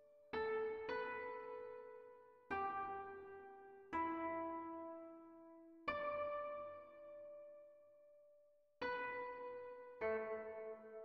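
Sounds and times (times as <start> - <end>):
slow piano chords: 0.0 - 7.7, 8.9 - 11.0.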